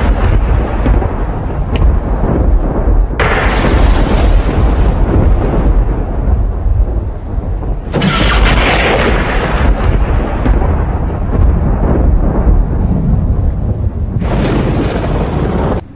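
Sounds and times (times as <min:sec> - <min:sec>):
sharp thunder crack: 0:00.0 - 0:15.9
thunder rumbling: 0:00.0 - 0:15.9.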